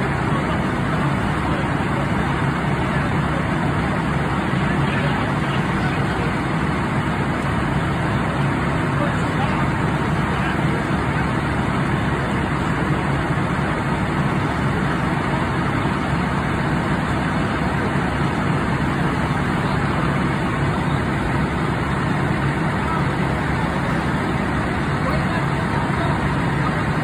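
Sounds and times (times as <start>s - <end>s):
fire engine pump rumble: 0.0s - 27.0s.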